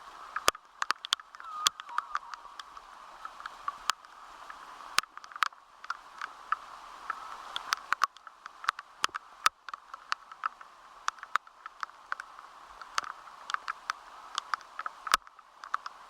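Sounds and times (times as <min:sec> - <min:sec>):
heavy rain on hard surface: 0:00.0 - 0:16.0.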